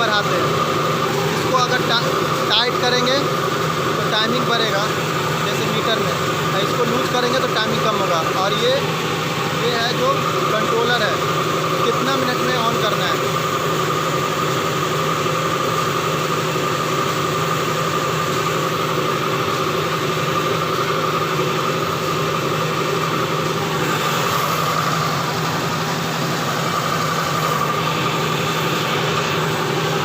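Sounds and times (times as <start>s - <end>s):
air compressor running: 0.0s - 30.0s.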